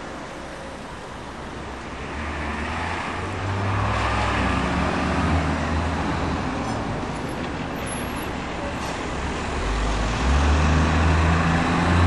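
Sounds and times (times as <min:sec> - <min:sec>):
bus diesel engine passing: 0:00.0 - 0:12.0
road traffic noise: 0:00.0 - 0:12.0.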